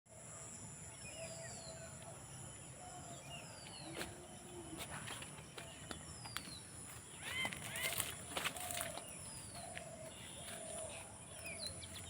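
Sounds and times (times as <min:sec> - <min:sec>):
small birds calling: 0:00.9 - 0:12.0.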